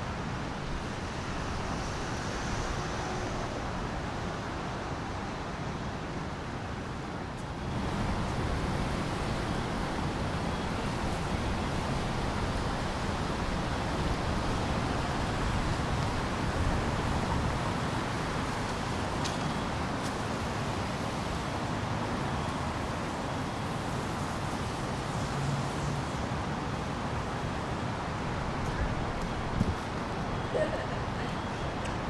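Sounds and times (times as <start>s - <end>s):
passing car traffic: 0.0s - 32.0s.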